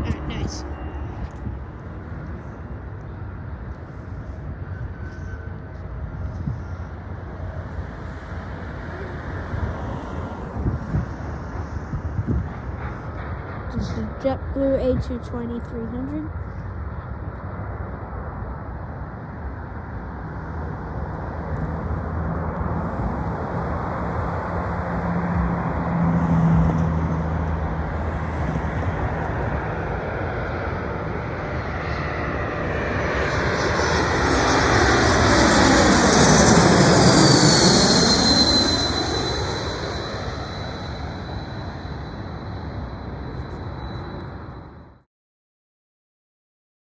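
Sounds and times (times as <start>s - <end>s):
jet passing overhead: 0.0s - 15.3s, 16.3s - 45.0s.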